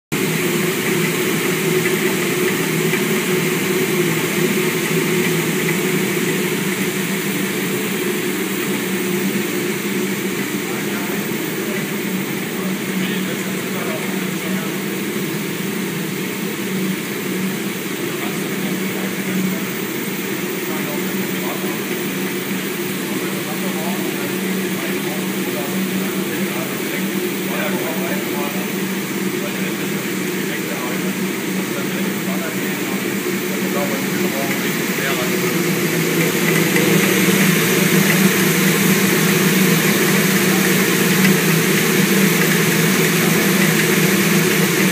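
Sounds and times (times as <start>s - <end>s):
shaker rig machine drone: 0.2s - 44.9s.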